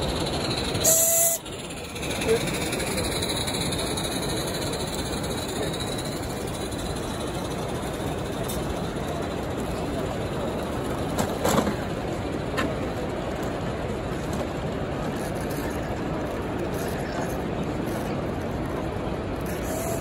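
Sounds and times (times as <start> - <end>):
exhibition hall background noise: 0.0 - 20.0
voices: 0.1 - 20.0.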